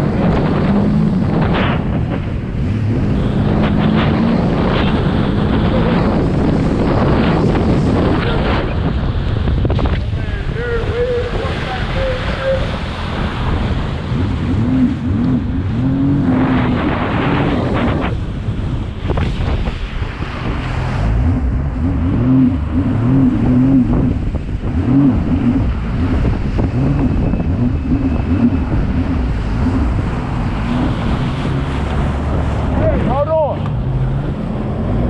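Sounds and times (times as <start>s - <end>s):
jet ski engine running: 0.0s - 35.0s
wind buffeting microphone: 0.0s - 35.0s.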